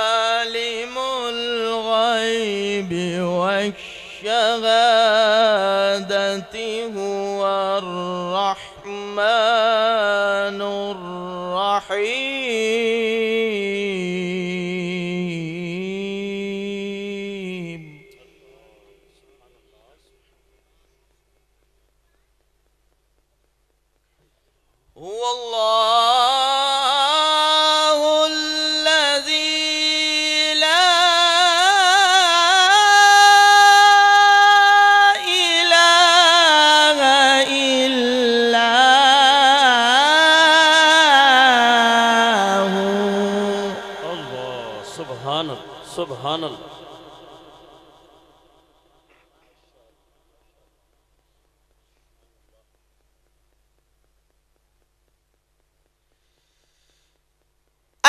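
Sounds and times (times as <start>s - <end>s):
man reciting melodically: 0.0s - 20.9s, 24.8s - 53.0s.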